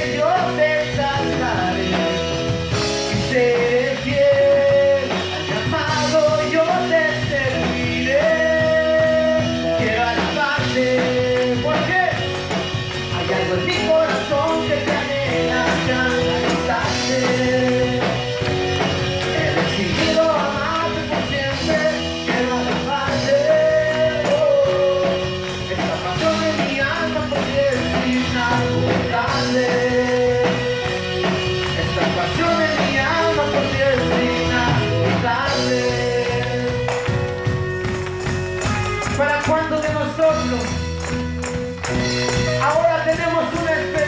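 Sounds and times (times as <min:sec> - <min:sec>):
person singing: 0:00.0 - 0:37.7
worship band playing: 0:00.0 - 0:44.0.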